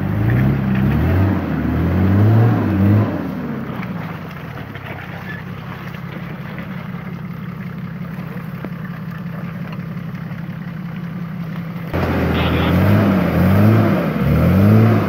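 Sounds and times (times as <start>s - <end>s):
diesel engine at low revs: 0.0s - 15.0s.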